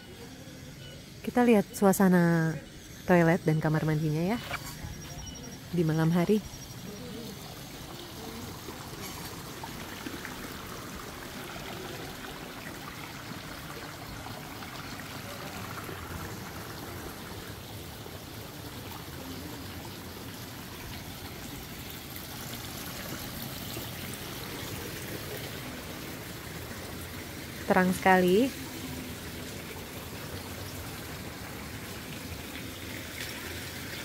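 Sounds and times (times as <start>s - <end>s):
water trickling: 0.0s - 34.0s.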